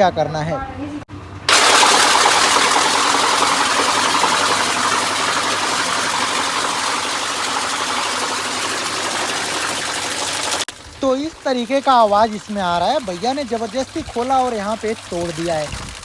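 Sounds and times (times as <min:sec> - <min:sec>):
washing machine spinning with rattling: 0:01.4 - 0:16.0.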